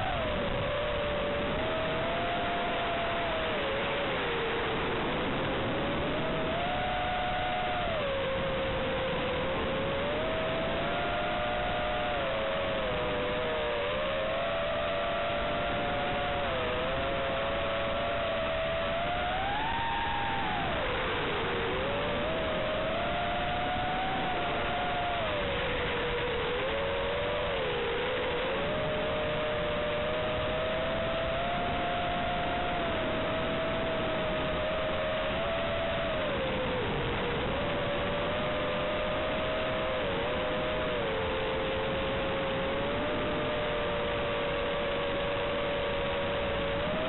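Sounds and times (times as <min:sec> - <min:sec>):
quadcopter motors whining: 0:00.0 - 0:47.0.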